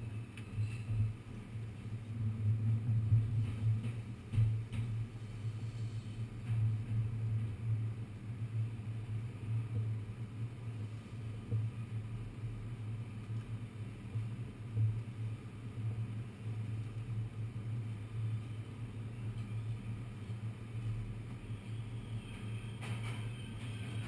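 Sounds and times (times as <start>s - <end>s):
subway car rumble and hum: 0.0s - 24.0s.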